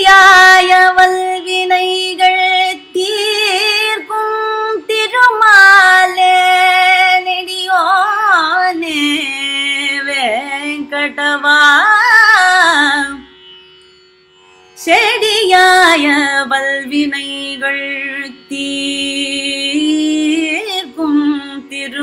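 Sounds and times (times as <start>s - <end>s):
woman singing ornamented notes: 0.0s - 13.3s, 14.8s - 22.0s.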